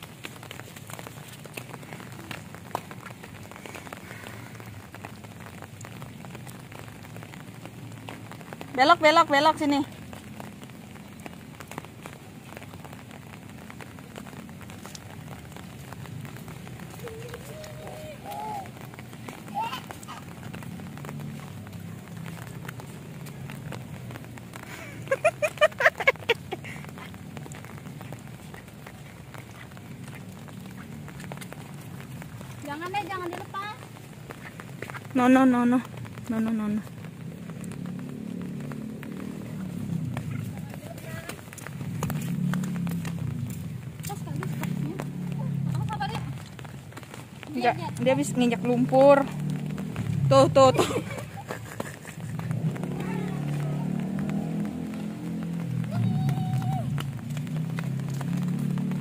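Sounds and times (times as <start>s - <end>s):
rain falling: 0.0s - 59.0s
water drips: 0.0s - 59.0s.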